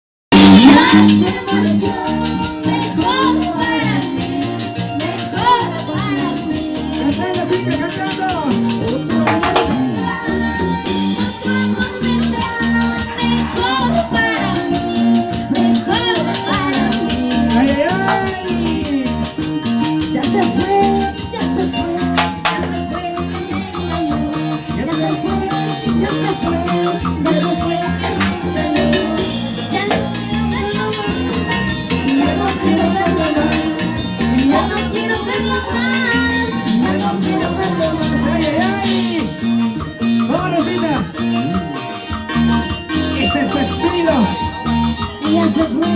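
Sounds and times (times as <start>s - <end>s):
live folk band music: 0.3s - 45.9s
plucked strings: 0.3s - 45.9s
repeating bass line: 0.3s - 45.9s.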